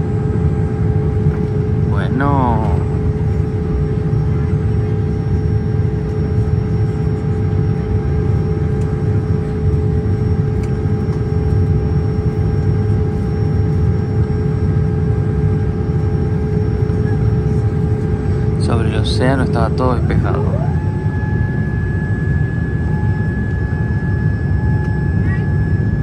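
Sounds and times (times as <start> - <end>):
airplane cabin rumble: 0.0 - 26.0
steady hum tone: 0.0 - 26.0.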